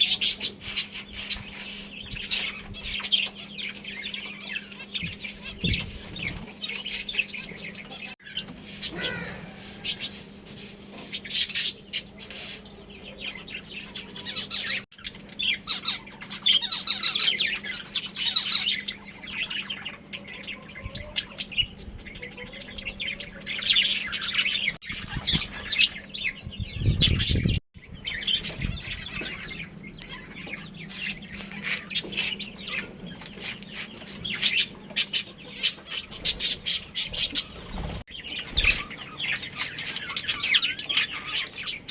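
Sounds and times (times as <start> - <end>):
budgerigars chirping: 0.0 - 9.2, 11.0 - 41.9.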